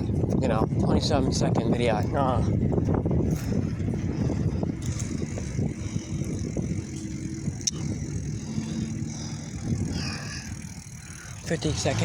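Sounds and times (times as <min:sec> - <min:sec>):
bicycle rumbling and rattling: 0:00.0 - 0:12.0.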